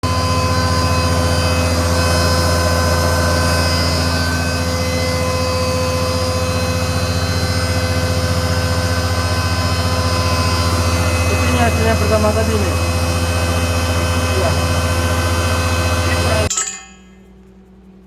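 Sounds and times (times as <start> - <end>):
milling machine motor running: 0.0 - 18.0.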